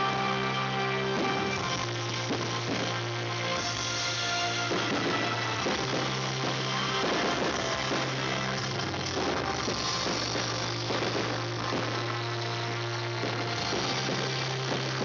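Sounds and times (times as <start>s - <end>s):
loud live rock music: 0.0s - 15.0s.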